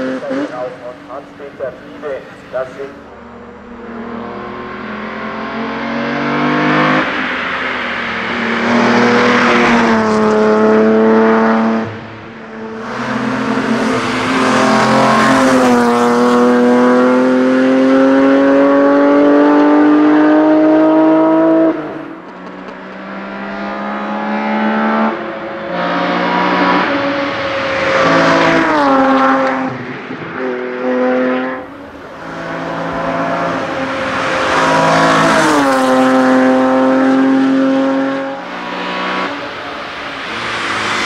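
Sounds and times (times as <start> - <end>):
race car engine at full throttle: 0.0 - 41.0.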